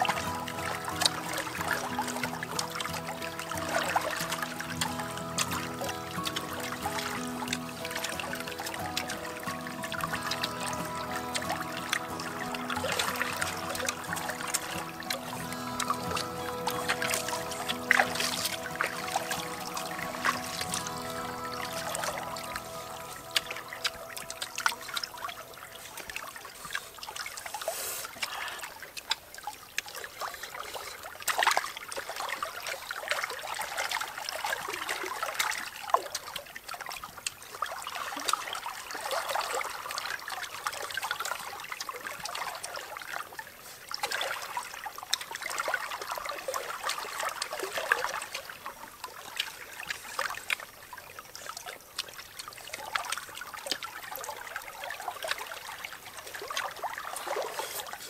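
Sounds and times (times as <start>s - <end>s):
river water trickling: 0.0s - 58.0s.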